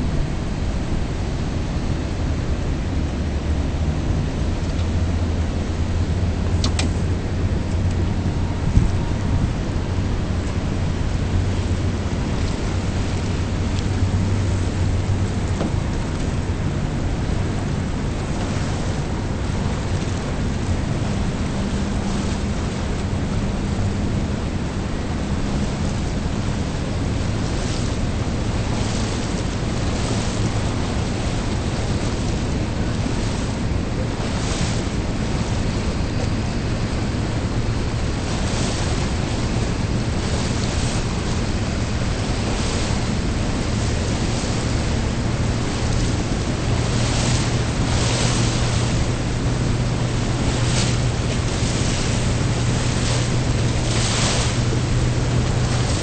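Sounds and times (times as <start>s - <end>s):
boat engine running: 0.0s - 56.0s
water splashing along hull: 0.0s - 56.0s
wind buffeting microphone: 0.0s - 56.0s.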